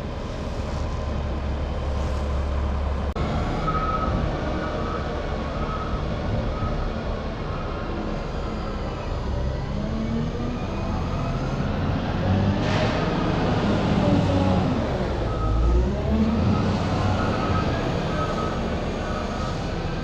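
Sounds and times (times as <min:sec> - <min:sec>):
loader engine revving: 0:01.1 - 0:20.0.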